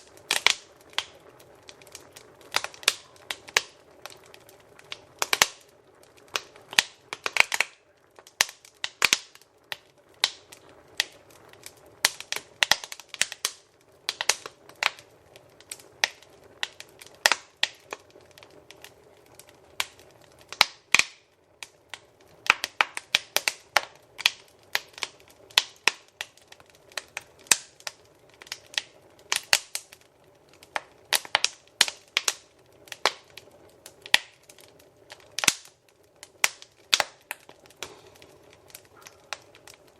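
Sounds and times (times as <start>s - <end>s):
faint hiss of flames: 0.0s - 39.9s
wood fire crackling and popping: 0.0s - 39.9s.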